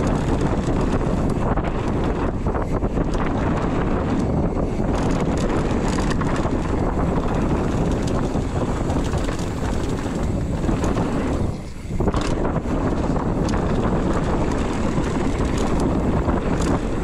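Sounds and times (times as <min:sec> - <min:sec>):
bike rattling clicks: 0:00.0 - 0:17.0
bike tyre rumble: 0:00.0 - 0:17.0
wind buffeting microphone: 0:00.0 - 0:17.0.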